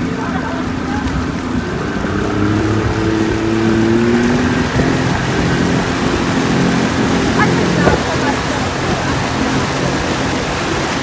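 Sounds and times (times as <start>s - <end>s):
boat engine running: 0.0s - 11.0s
water churning in wake: 0.0s - 11.0s.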